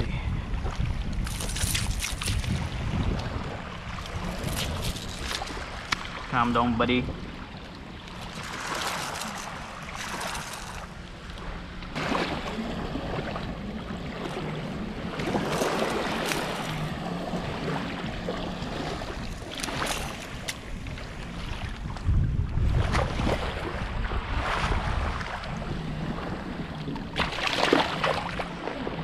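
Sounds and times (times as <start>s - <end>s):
small waves lapping on beach: 0.0s - 29.0s
wind gusts on microphone: 0.0s - 29.0s.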